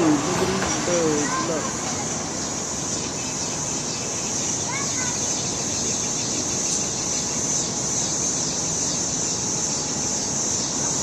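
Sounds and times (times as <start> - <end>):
city traffic rumble: 0.0 - 11.0
flock of birds chattering: 0.0 - 11.0.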